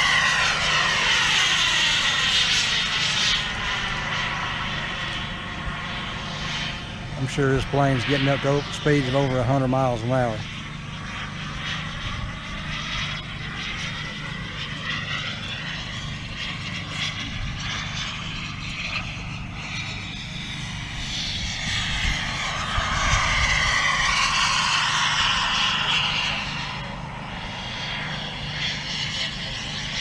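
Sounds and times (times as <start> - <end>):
model jet turbine whine: 0.0 - 30.0.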